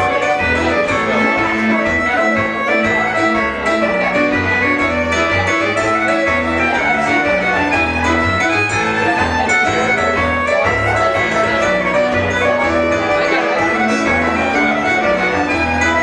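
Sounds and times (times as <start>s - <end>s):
fiddle playing a tune: 0.0s - 16.0s.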